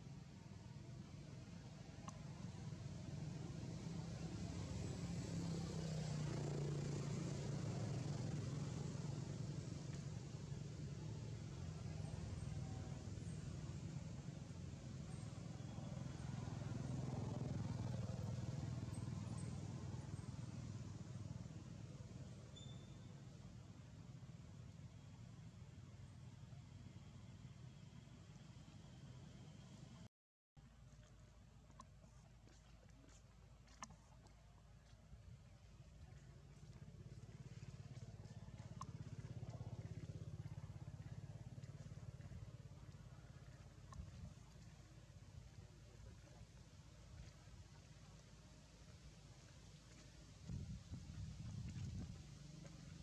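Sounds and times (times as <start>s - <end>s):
vehicle engine rumble passing: 0.0s - 30.0s, 31.0s - 53.0s.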